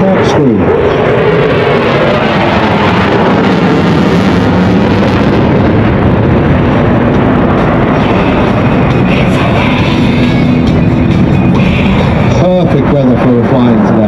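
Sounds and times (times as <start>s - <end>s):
fighter jet engines roaring: 0.0s - 14.0s.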